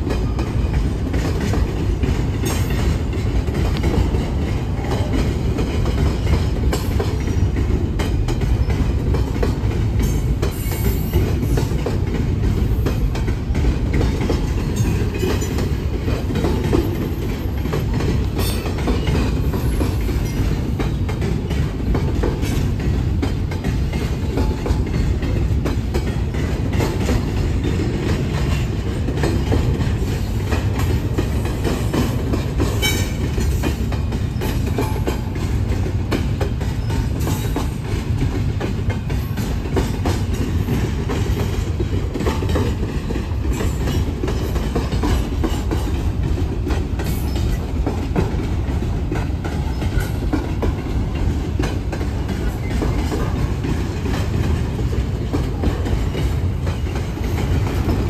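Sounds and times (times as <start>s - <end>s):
train cars rumbling past: 0.0s - 58.0s
wheels clicking over rail joints: 0.0s - 58.0s.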